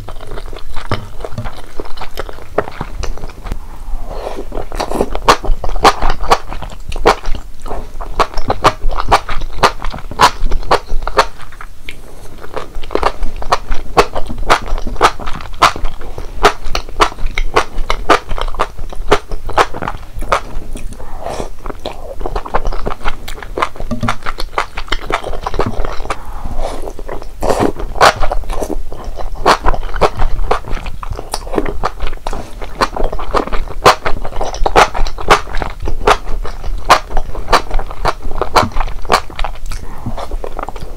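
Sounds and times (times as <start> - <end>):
food crunching: 0.0 - 40.9
wet chewing with mouth clicks: 0.0 - 40.9.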